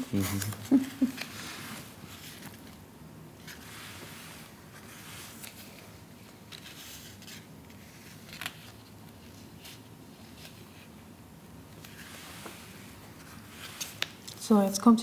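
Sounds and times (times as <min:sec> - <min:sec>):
paper pages rustling: 0:00.0 - 0:02.8, 0:03.4 - 0:11.0, 0:11.7 - 0:14.5.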